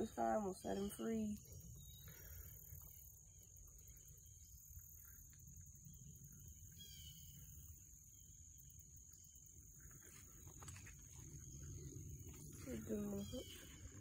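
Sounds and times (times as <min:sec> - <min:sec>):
bird chirp: 0:00.0 - 0:14.0.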